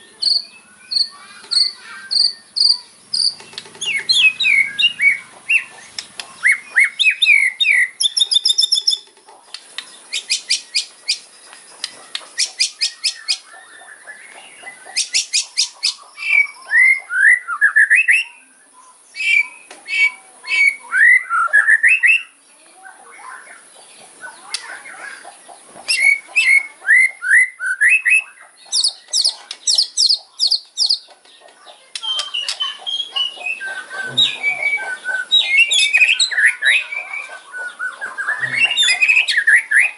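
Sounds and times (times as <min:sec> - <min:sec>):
bird singing crackling song: 0:00.0 - 0:39.9.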